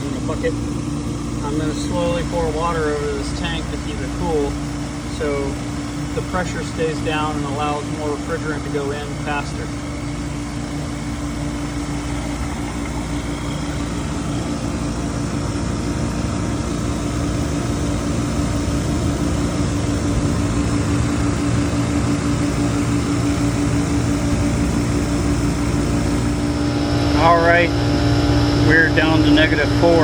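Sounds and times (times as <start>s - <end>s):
compressor machine humming: 0.0s - 30.0s.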